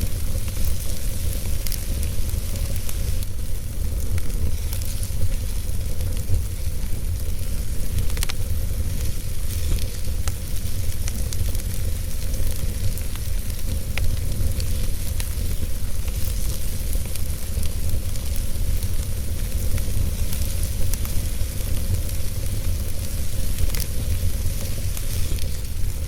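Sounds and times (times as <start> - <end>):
fire crackling and popping: 0.0 - 26.0
fire flames rumbling and hissing: 0.0 - 26.0.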